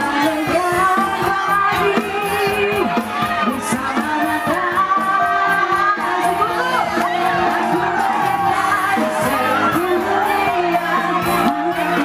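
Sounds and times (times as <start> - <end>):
crowd noise: 0.0 - 12.0
live band music: 0.0 - 12.0
woman singing: 0.0 - 12.0.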